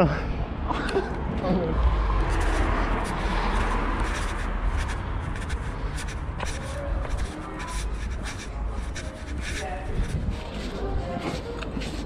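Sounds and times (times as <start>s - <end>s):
low microphone rumble: 1.2s - 12.0s
footsteps: 1.8s - 12.0s.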